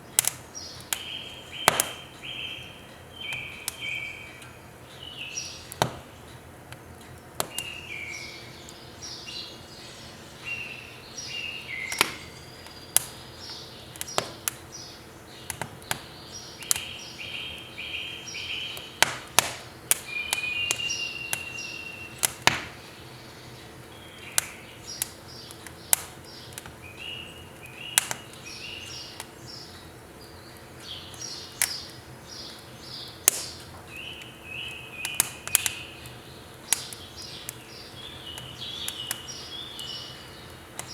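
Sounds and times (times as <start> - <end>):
firewood crackling in stove: 0.0 - 40.9
small birds chirping: 0.0 - 40.9
sharp pops of burning wood: 0.1 - 2.1, 3.2 - 3.9, 5.4 - 7.8, 11.6 - 22.9, 23.6 - 40.9.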